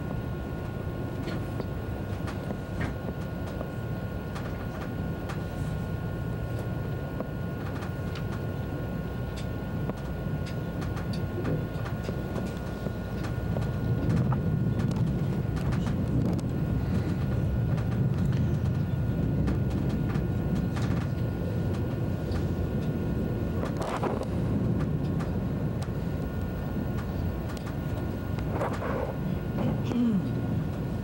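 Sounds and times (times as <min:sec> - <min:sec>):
high-speed train rumble: 0:00.0 - 0:31.0.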